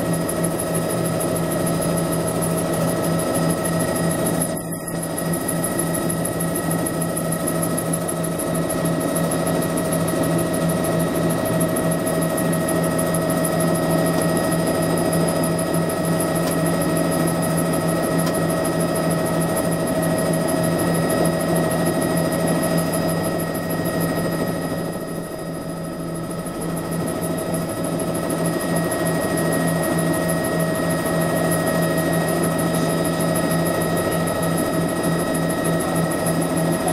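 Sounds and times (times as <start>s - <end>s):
helicopter engine and rotor running: 0.0s - 36.9s.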